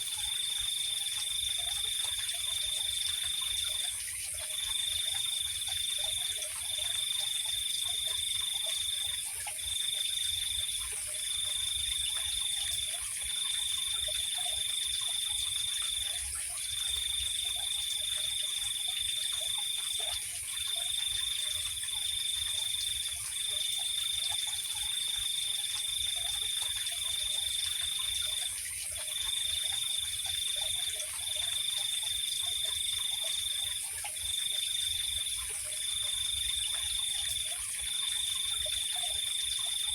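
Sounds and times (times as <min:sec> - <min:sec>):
cricket trilling: 0:00.0 - 0:39.9.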